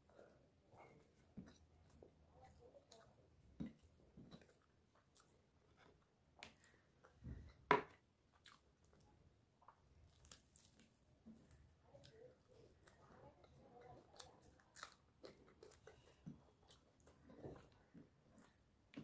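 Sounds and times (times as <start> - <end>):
chewing and mouth sounds: 0.1 - 19.0.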